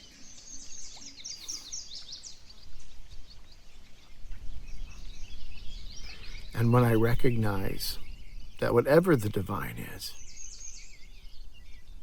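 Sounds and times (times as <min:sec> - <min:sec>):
outdoor background noise: 0:00.0 - 0:12.0
songbirds chirping: 0:00.0 - 0:12.0.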